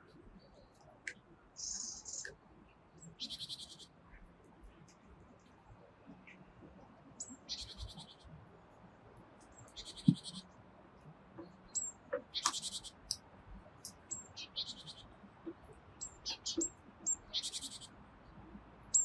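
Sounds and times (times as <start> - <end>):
small birds chirping and trilling: 0.0 - 19.0.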